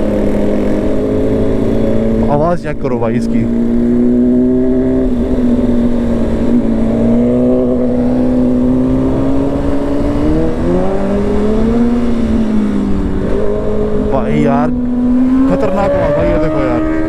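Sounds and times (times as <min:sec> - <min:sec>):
motorcycle engines running: 0:00.0 - 0:17.0
motorcycle engine revving up: 0:03.2 - 0:17.0.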